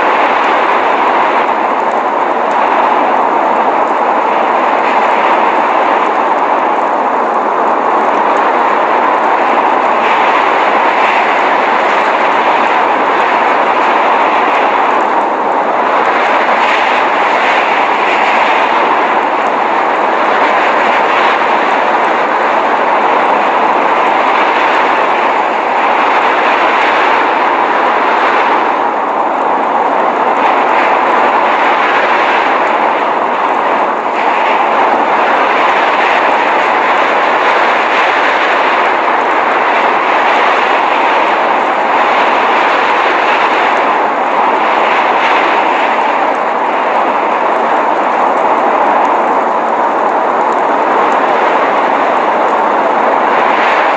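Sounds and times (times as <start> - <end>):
blizzard wind roaring: 0.0 - 53.9
wind hiss: 0.0 - 53.9.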